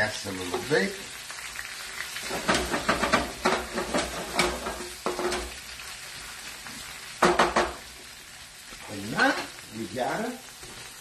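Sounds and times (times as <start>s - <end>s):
tomatoes sizzling in frying pan: 0.0s - 11.0s.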